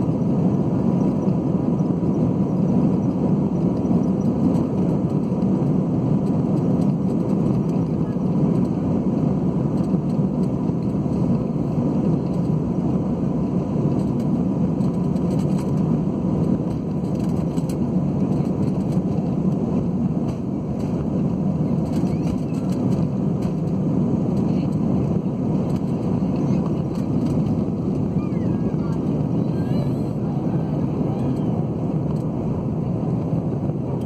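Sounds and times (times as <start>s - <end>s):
jet engine and cabin rumble: 0.0s - 34.0s.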